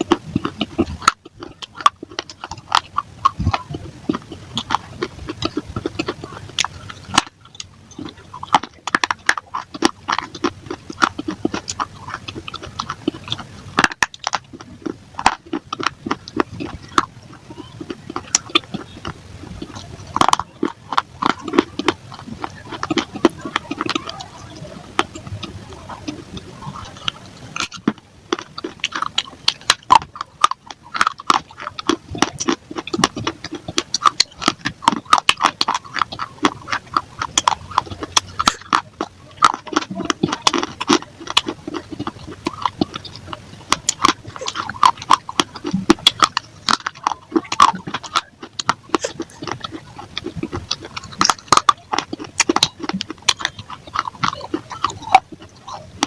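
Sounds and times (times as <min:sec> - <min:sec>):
person crunching hard clay: 0:00.0 - 0:56.0.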